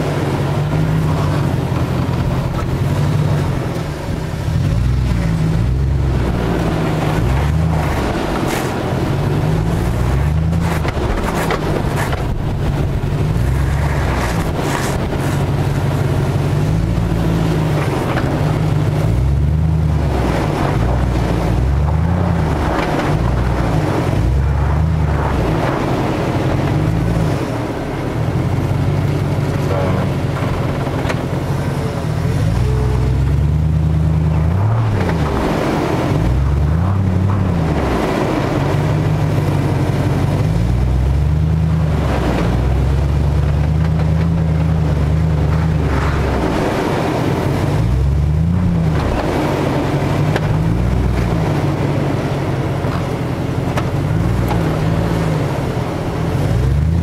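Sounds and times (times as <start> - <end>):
car engine under load: 0.0 - 57.0.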